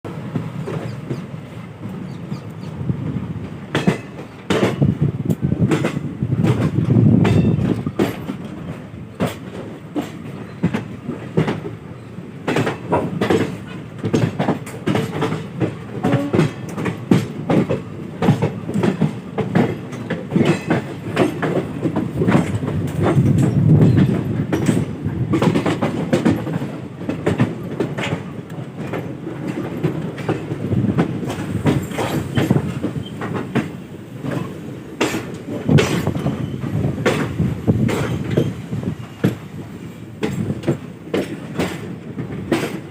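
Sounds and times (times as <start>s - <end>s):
train rumble: 0.0s - 42.9s
train wheels clacking: 0.1s - 42.9s.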